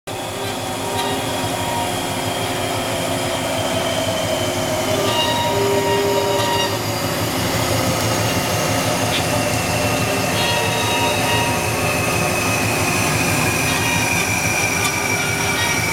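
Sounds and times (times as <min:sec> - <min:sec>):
band saw running: 0:00.1 - 0:15.9.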